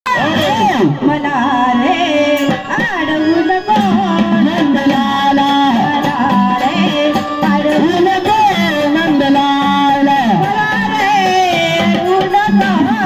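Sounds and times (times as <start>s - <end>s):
person singing folk song: 0.1s - 13.0s
drum: 2.4s - 13.0s.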